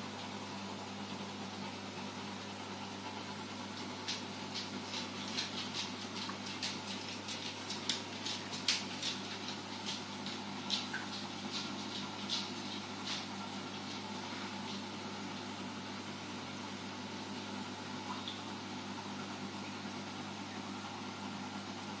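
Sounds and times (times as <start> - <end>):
pump hum and hiss: 0.0 - 22.0.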